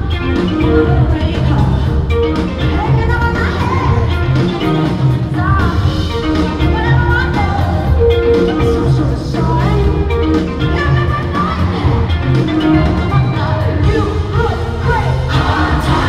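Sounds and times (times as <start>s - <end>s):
live rock band playing: 0.0s - 16.0s
woman singing lead vocal: 0.0s - 16.0s.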